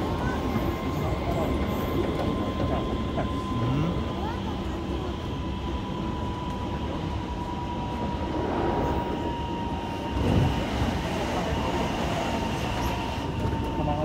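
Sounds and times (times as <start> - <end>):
oncoming train passing: 0.0 - 14.0
wheels rumbling on rail: 0.0 - 14.0.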